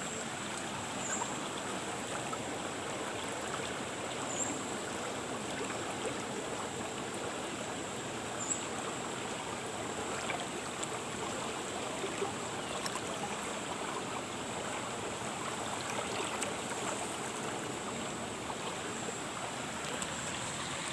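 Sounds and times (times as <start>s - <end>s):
water rushing down a channel: 0.0s - 20.9s.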